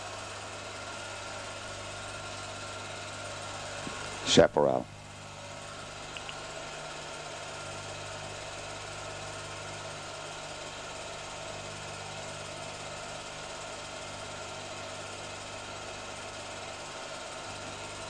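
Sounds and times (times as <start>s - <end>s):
steady low hum with hiss: 0.0s - 18.0s.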